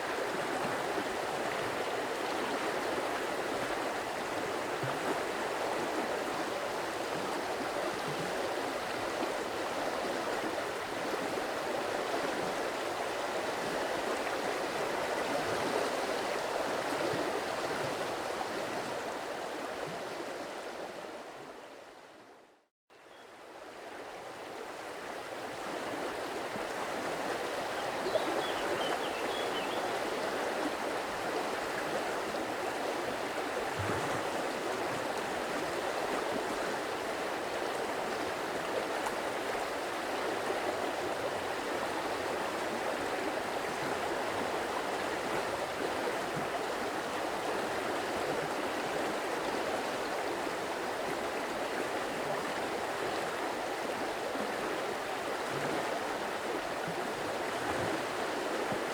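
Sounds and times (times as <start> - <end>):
stream of water flowing: 0.0 - 22.4, 23.0 - 58.9.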